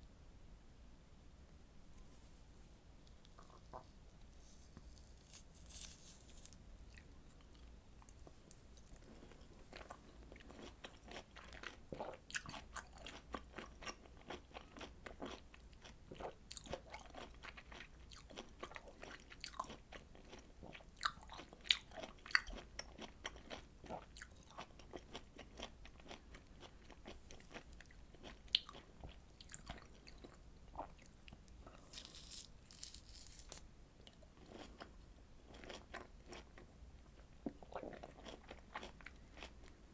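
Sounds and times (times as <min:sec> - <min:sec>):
chewing juicy citrus fruit: 0:05.4 - 0:34.9, 0:35.5 - 0:39.8.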